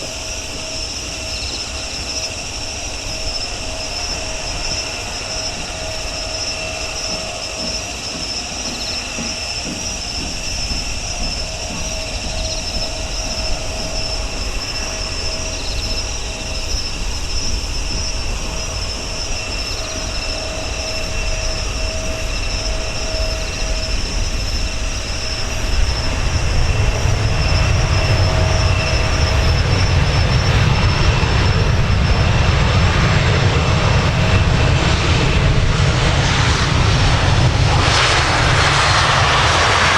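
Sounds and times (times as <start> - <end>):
deep aircraft rumble: 0.0 - 39.9
jet engine whine: 0.0 - 39.9.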